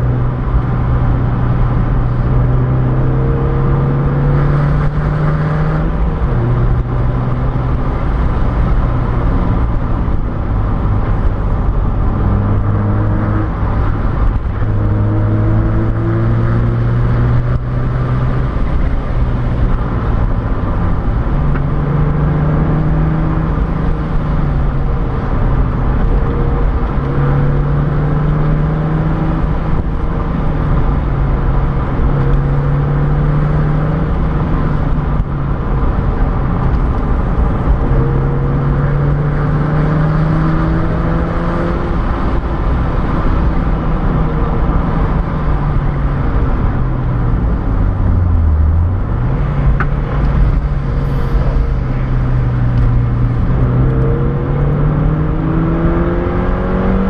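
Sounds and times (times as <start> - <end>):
car engine running: 0.0 - 57.0
road and wind noise: 0.0 - 57.0.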